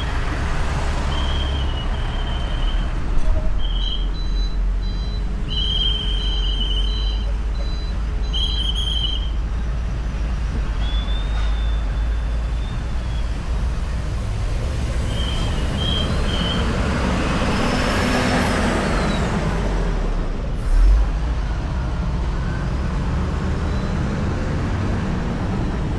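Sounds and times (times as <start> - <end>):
road traffic: 0.0 - 25.9.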